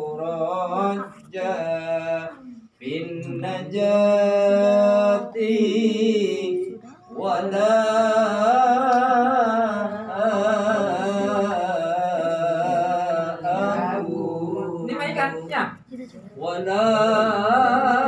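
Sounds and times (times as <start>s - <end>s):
man chanting recitation: 0.0s - 15.4s, 16.4s - 18.0s.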